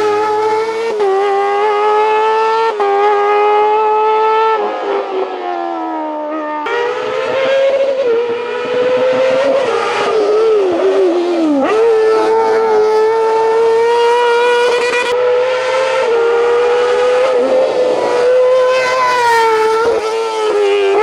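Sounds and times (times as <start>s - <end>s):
racing car engine at high revs: 0.0s - 21.0s.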